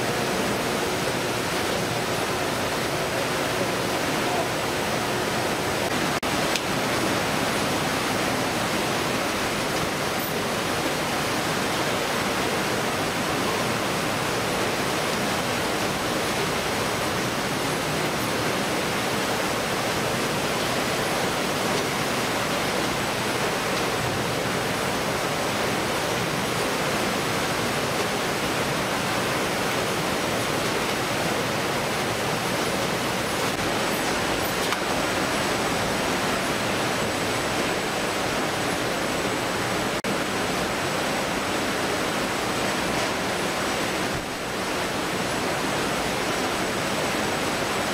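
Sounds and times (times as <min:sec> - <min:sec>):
water spraying and flowing: 0:00.0 - 0:47.9.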